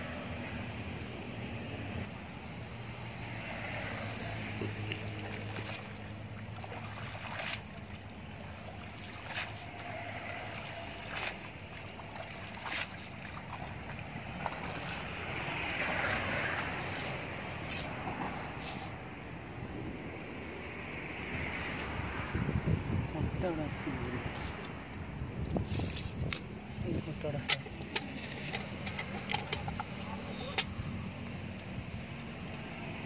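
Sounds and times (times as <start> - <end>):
river water splashing: 0.0 - 19.2, 23.3 - 33.0.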